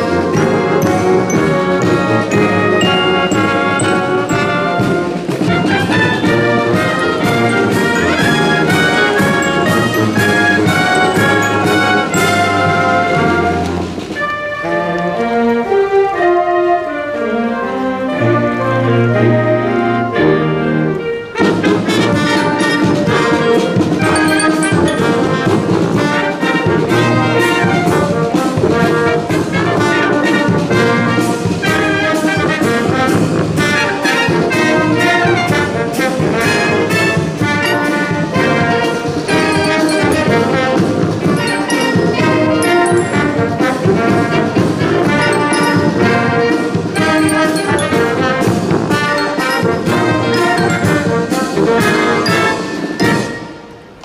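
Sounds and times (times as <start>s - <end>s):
steady drum beat: 0.0s - 14.1s, 21.8s - 53.3s
brass band playing a march: 0.0s - 54.0s.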